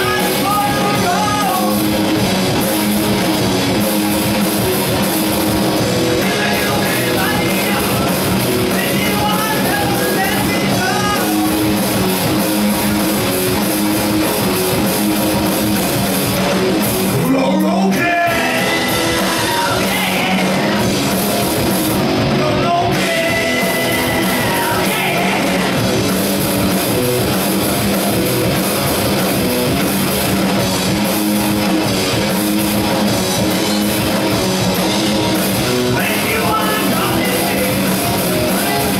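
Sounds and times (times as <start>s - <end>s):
drum kit: 0.0s - 38.9s
electric guitars: 0.0s - 38.9s
melodic lead guitar line: 0.0s - 38.9s.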